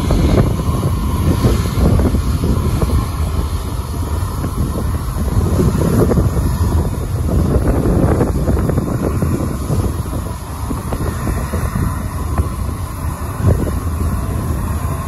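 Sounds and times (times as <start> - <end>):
jet engines rumbling overhead: 0.0 - 15.0
wind buffeting microphone: 0.0 - 15.0.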